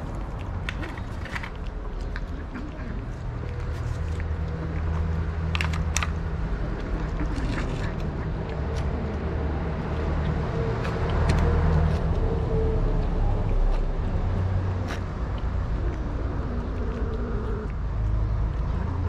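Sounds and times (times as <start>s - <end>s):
cats eating from plates: 0.0s - 19.0s
vehicle engine humming: 0.0s - 19.0s.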